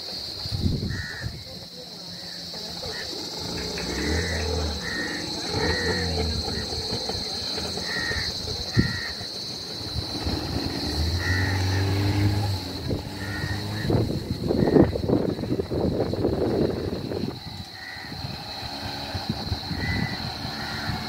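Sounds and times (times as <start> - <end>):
steady high-pitched hiss: 0.0 - 21.0.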